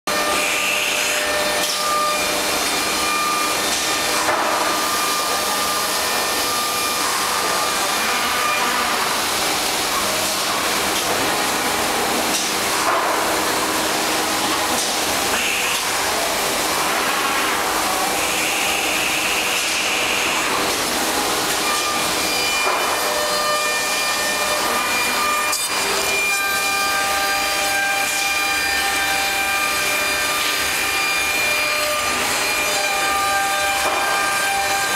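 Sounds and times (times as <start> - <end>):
woodworking machinery whirring: 0.1 - 34.9.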